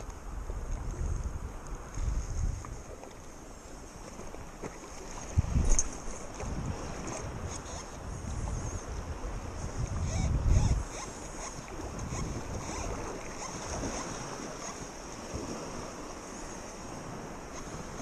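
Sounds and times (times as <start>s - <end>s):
lake water lapping and splashing: 0.0s - 18.0s
wind rumbling on microphone: 0.0s - 18.0s.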